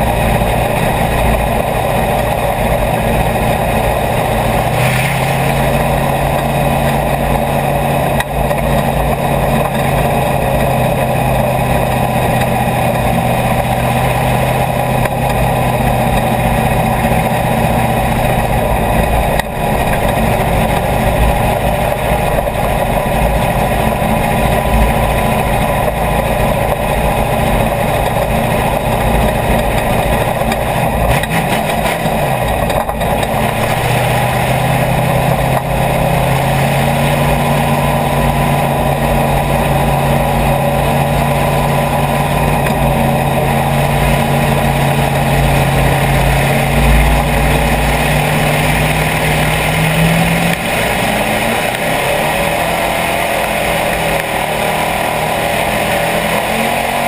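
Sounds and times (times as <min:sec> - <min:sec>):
race car engine rumbling: 0:00.0 - 0:57.0
road and chassis noise: 0:00.0 - 0:57.0.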